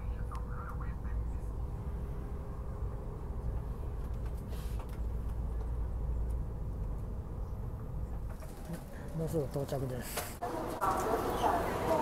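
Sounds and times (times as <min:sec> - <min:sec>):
train cabin rumble and hum: 0:00.0 - 0:12.0.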